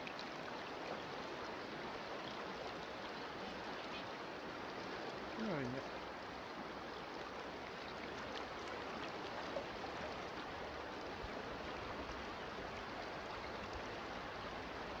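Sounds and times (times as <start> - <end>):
river water flowing over stones: 0.0 - 15.0.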